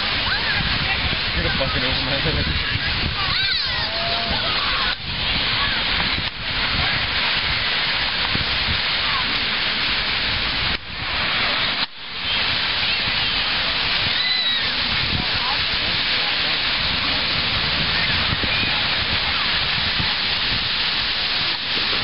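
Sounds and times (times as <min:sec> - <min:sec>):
surf washing: 0:00.0 - 0:22.0
wind across microphone: 0:00.0 - 0:22.0.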